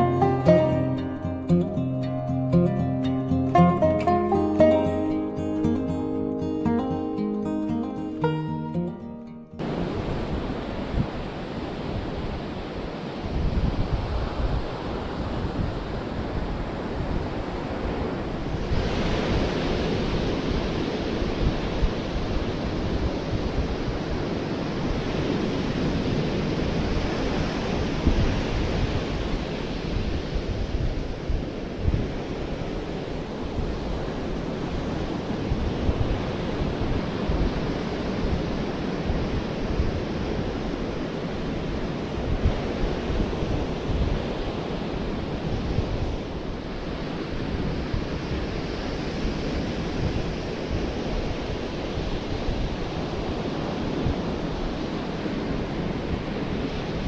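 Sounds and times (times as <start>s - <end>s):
sea surf washing onto beach: 0.0s - 9.0s, 9.6s - 57.0s
wind gusting against microphone: 8.2s - 57.0s.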